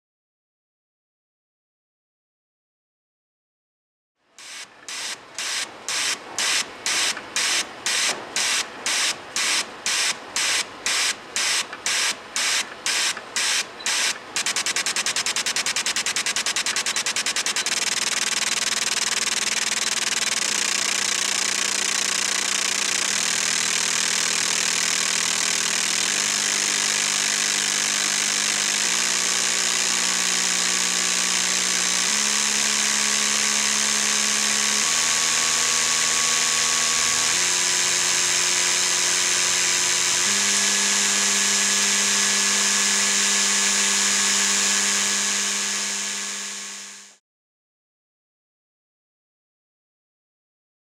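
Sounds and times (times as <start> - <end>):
low buzz: 4.4 - 47.2.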